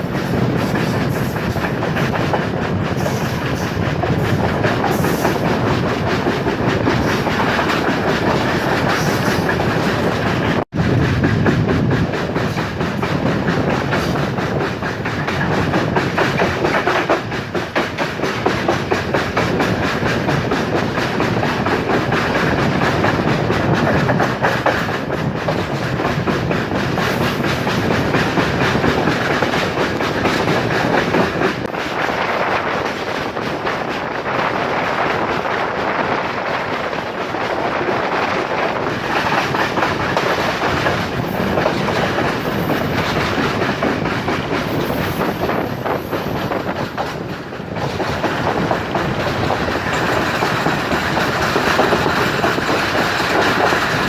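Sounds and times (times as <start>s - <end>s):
clickety-clack over rail joints: 0.0s - 54.0s
train wheels rumbling on rails: 0.0s - 54.0s.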